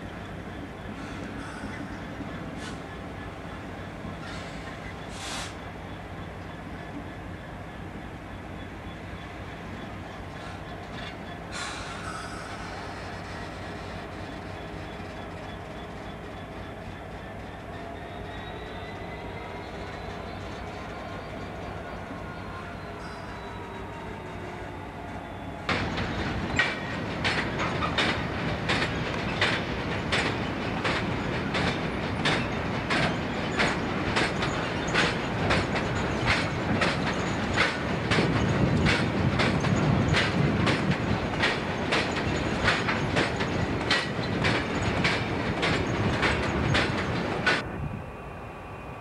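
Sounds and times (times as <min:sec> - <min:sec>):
train wheels clicking on track: 0:00.0 - 0:47.7
locomotive engine rumbling: 0:00.0 - 0:49.0.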